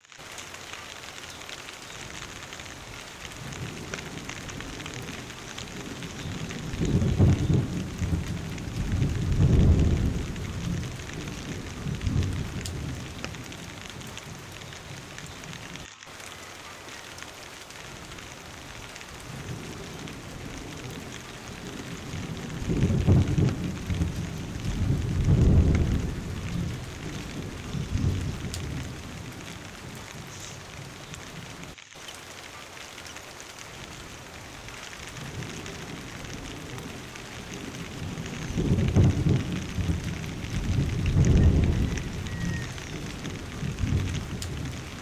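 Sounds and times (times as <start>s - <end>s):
heavy rain on foliage: 0.0s - 45.0s.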